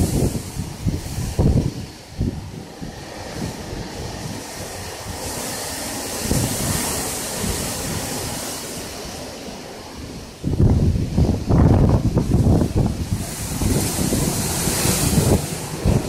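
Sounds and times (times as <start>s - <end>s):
strong wind through palm trees: 0.0s - 16.0s
wind buffeting microphone: 0.0s - 16.0s.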